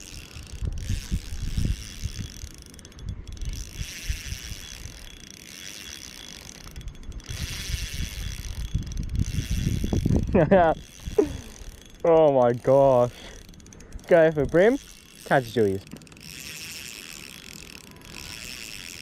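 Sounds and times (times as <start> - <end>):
fishing reel drag clicking: 0.0 - 19.0.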